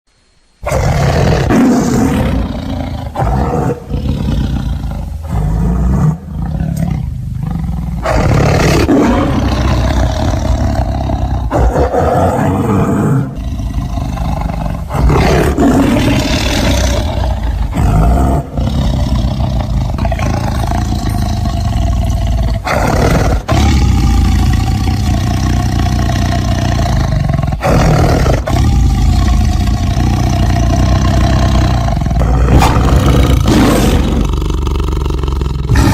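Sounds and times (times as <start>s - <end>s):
tiger roaring: 0.6s - 35.9s.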